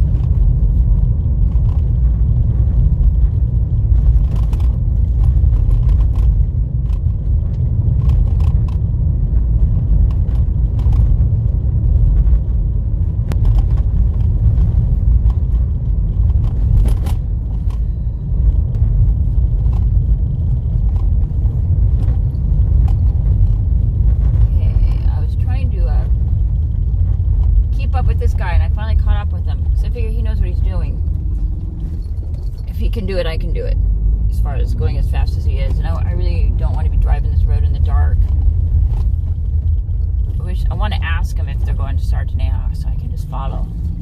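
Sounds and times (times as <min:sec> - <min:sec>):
car road rumble: 0:00.0 - 0:44.0.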